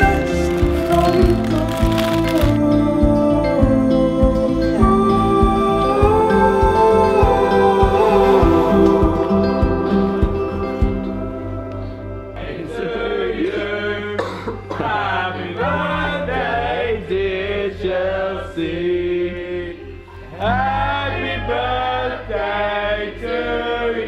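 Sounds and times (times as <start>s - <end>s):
song with singing and pulsing bass: 0.0s - 23.6s.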